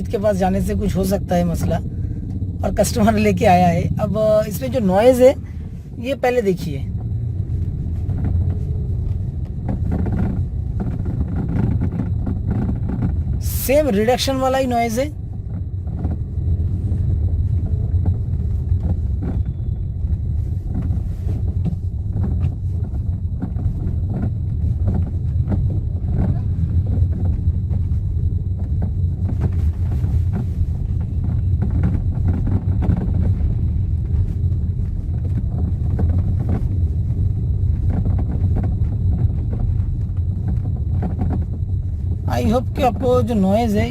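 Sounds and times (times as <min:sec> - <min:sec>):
low road rumble: 0:00.0 - 0:43.9.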